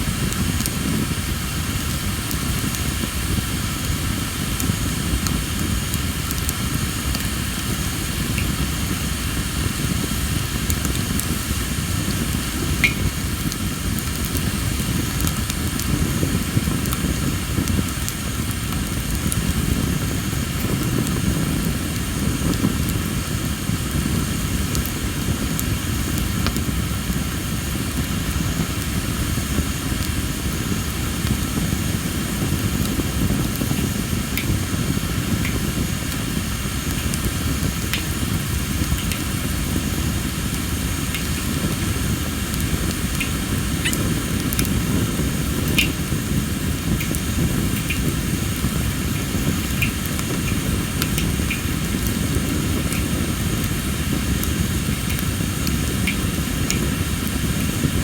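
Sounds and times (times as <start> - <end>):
fire popping and crackling: 0.0 - 58.0
low rumble of flame: 0.0 - 58.0.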